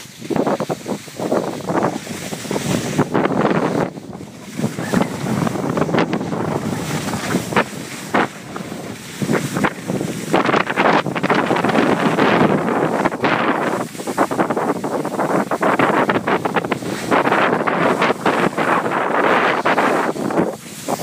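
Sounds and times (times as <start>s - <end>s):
skis scraping packed snow: 0.0s - 21.0s
wind buffeting microphone: 0.0s - 21.0s.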